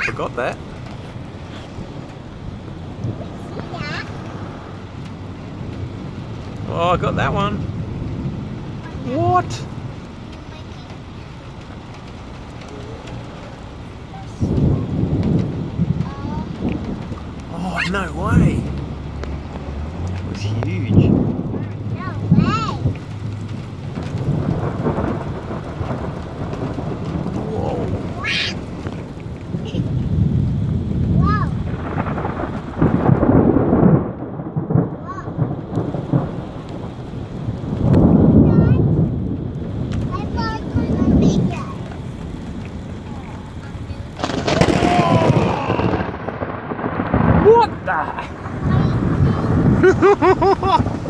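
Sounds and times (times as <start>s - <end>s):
loud thunder clap and rumble: 0.0s - 51.0s
steady rain hiss: 0.0s - 51.0s.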